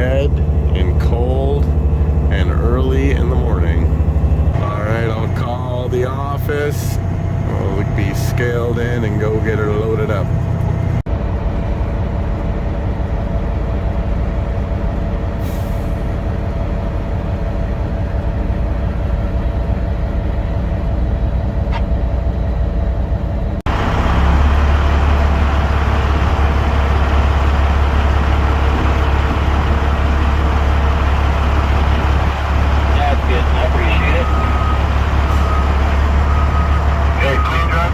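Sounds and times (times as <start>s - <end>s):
truck diesel engine running: 0.0s - 37.9s.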